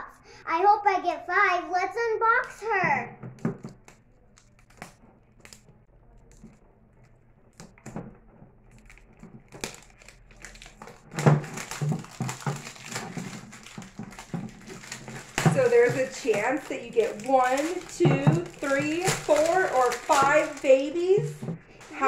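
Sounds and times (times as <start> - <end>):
packaging clicks and taps: 3.3 - 22.0
packaging crinkling and tearing: 3.6 - 7.9, 8.6 - 22.0.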